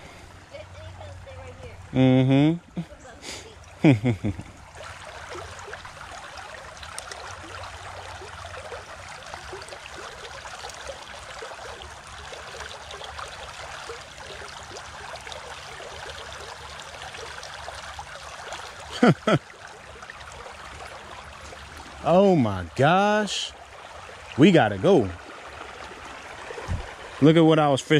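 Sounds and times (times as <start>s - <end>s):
creek water running: 0.0s - 27.9s.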